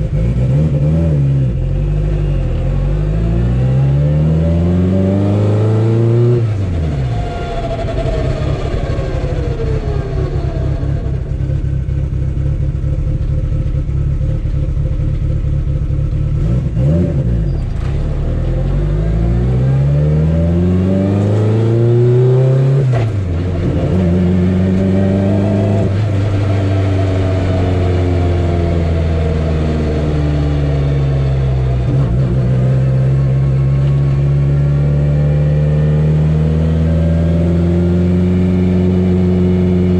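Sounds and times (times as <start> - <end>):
turbocharged car engine revving: 0.0 - 39.9.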